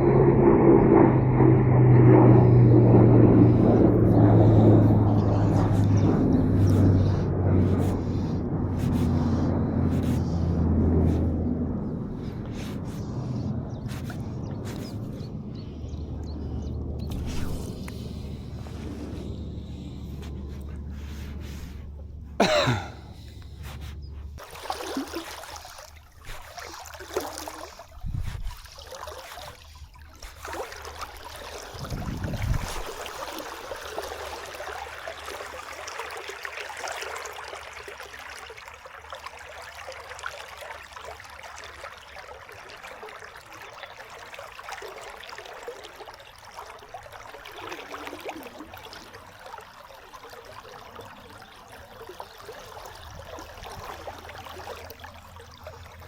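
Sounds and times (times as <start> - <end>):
river water flowing: 2.4 - 56.0.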